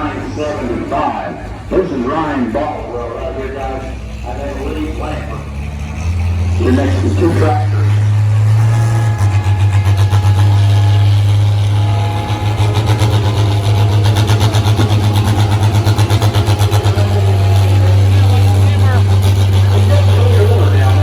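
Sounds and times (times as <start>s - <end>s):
tractor engine running under load: 0.0s - 21.0s.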